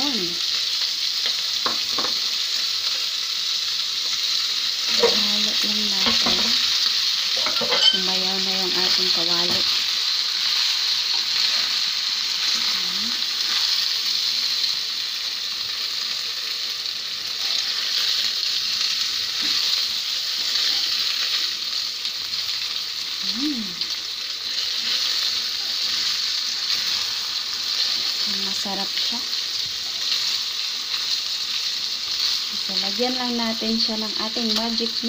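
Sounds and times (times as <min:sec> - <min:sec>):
food sizzling in a hot pan: 0:00.0 - 0:35.0.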